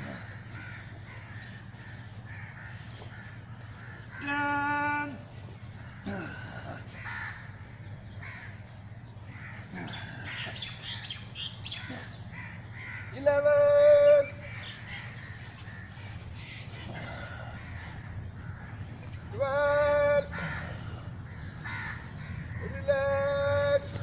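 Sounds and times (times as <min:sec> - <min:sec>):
birds calling: 0:00.0 - 0:24.0
steady low hum: 0:00.0 - 0:24.0.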